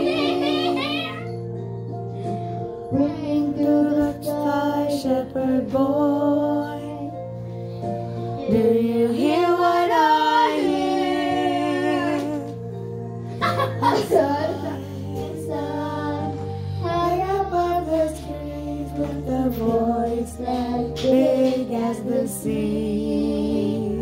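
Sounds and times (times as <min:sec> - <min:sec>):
girls singing into microphones: 0:00.0 - 0:01.3, 0:02.9 - 0:07.3, 0:08.4 - 0:12.8, 0:13.4 - 0:24.0
instrumental backing track: 0:00.0 - 0:24.0.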